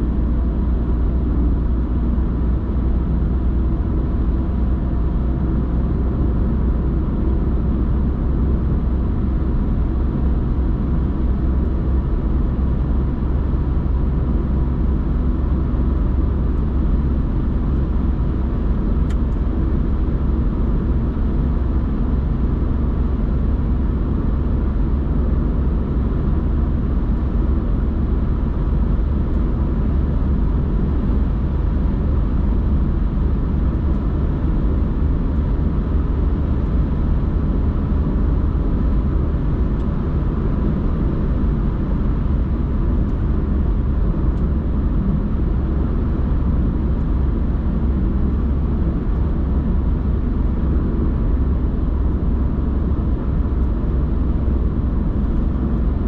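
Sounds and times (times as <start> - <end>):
car cabin road noise: 0.0 - 56.0.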